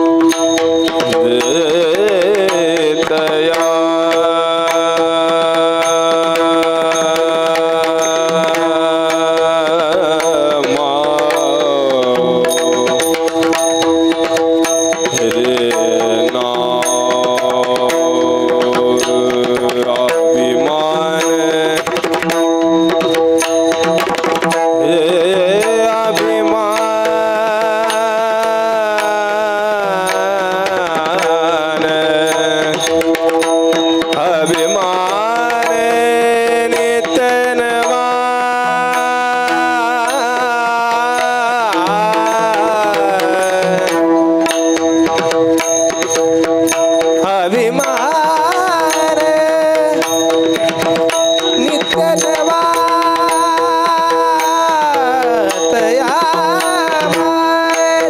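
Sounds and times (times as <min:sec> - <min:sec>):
hand drum playing: 0:00.0 - 0:29.4, 0:30.0 - 0:58.0.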